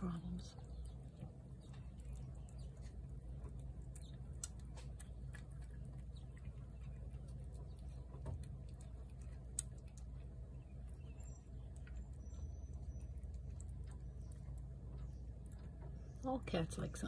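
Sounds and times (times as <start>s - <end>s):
cat chewing and lapping food: 0.0s - 17.0s
faint low hum: 0.0s - 17.0s.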